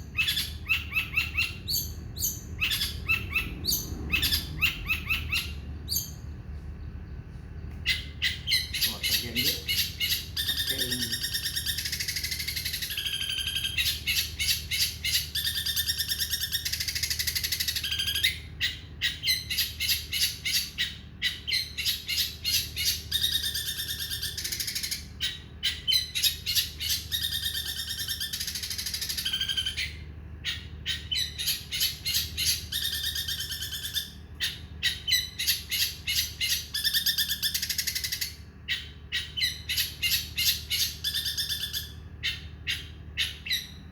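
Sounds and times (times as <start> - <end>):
shrike singing: 0.0 - 43.9.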